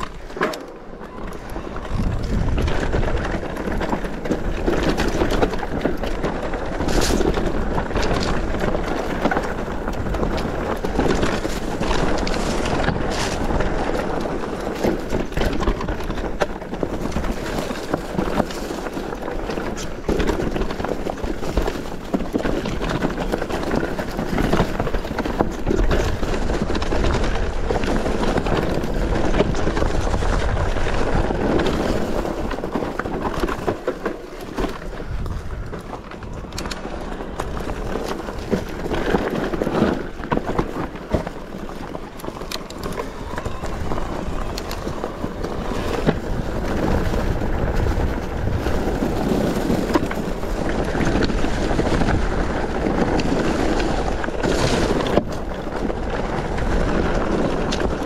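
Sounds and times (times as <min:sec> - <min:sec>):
bike rattling: 0:00.0 - 0:58.0
bike tyres on loose stones: 0:00.0 - 0:58.0.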